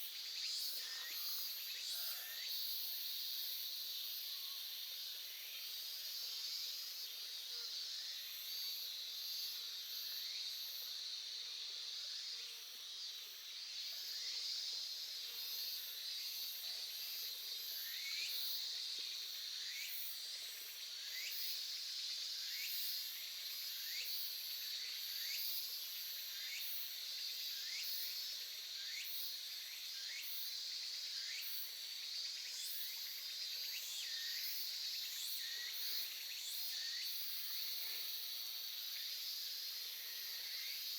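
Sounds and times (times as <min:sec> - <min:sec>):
insects chirping: 0:00.0 - 0:07.2, 0:07.8 - 0:40.9.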